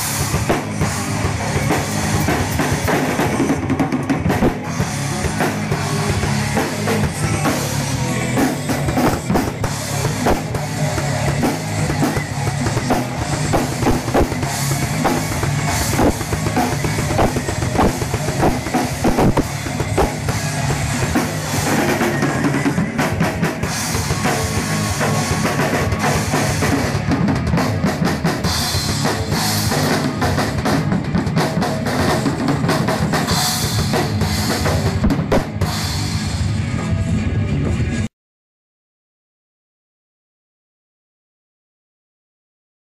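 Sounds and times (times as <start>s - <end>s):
drum kit playing: 0.0s - 38.1s.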